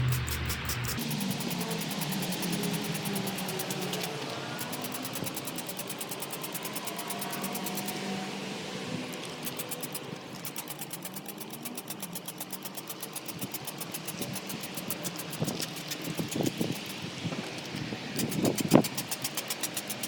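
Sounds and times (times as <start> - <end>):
rapid mechanical ticking: 0.0 - 8.0, 9.2 - 20.0
spray bottle hissing water: 0.0 - 8.0, 9.3 - 20.0.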